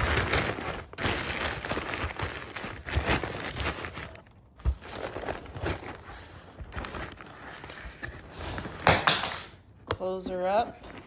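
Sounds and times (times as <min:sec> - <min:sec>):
crumpled paper rustling: 0:00.0 - 0:08.9, 0:10.8 - 0:11.0.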